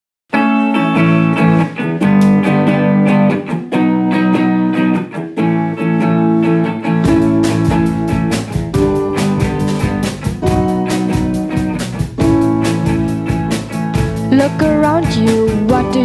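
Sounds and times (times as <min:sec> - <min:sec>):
bass guitar: 0:00.3 - 0:16.0
electric guitar chords: 0:00.3 - 0:16.0
drums: 0:00.4 - 0:03.2, 0:06.0 - 0:16.0.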